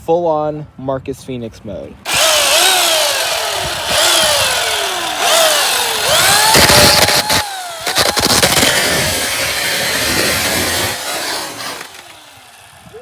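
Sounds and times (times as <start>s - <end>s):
chainsaw engine revving: 2.1s - 13.0s.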